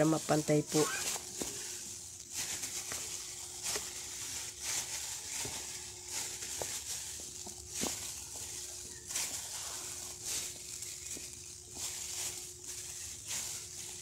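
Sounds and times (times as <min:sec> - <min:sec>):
dough squishing: 0:00.0 - 0:14.0
plastic glove crinkling: 0:00.0 - 0:14.0.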